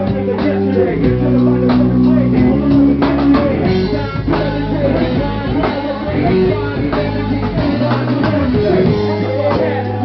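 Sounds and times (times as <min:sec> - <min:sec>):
bass line: 0:00.0 - 0:10.0
drum kit beat: 0:00.0 - 0:10.0
electric guitar: 0:00.0 - 0:10.0.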